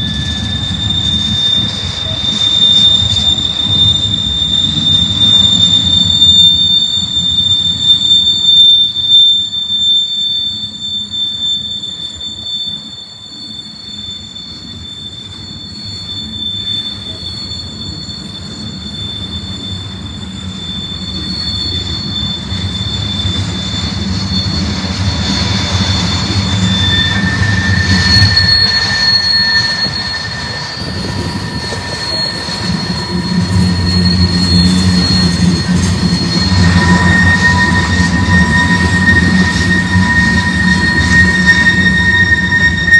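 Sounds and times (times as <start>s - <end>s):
rumble of wheels on track: 0.0s - 42.9s
train wheels squealing on rail: 0.0s - 42.9s.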